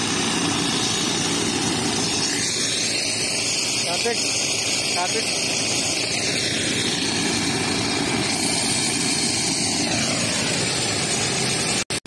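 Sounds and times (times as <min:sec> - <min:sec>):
even hiss: 0:00.0 - 0:11.9
machinery droning: 0:00.0 - 0:12.0.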